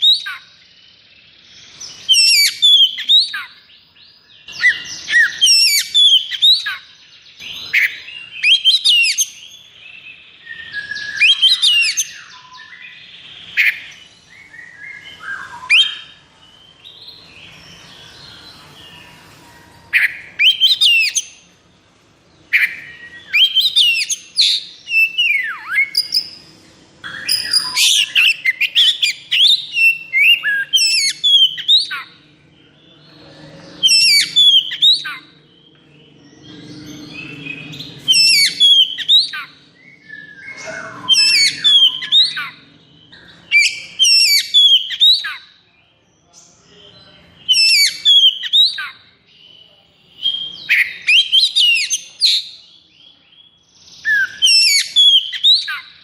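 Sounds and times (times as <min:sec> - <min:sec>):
songbird singing rapid whistles: 0:00.0 - 0:21.6, 0:22.4 - 0:32.3, 0:32.9 - 0:56.0.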